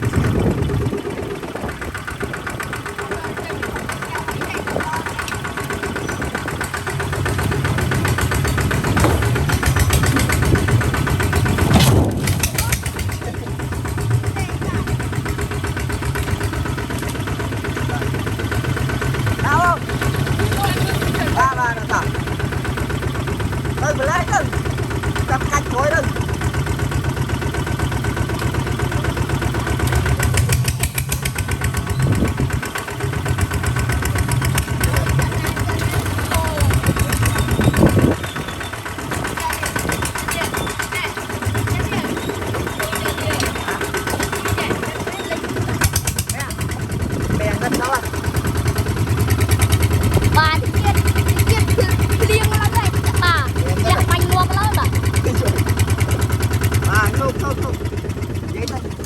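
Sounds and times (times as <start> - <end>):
diesel engine knocking: 0.0 - 59.0.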